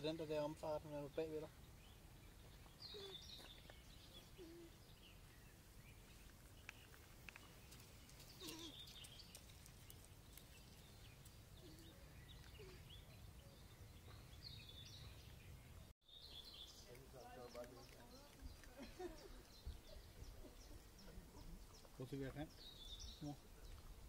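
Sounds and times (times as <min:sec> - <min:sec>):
distant bird chirps: 0:00.0 - 0:24.0.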